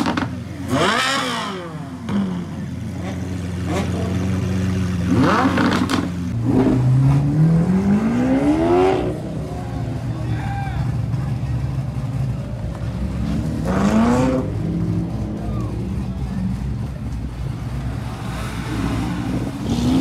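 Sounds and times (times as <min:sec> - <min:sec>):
sports car engine revving: 0:00.0 - 0:10.0, 0:11.8 - 0:20.0.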